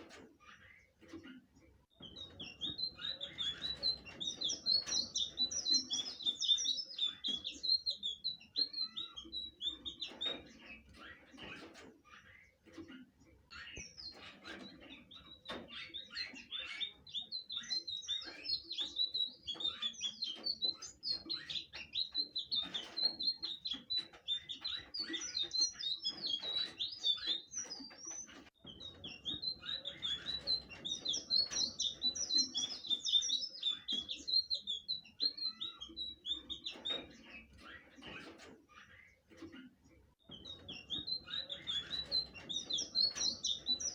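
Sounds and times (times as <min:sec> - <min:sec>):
bird singing chirps and trills: 0:01.9 - 0:43.9.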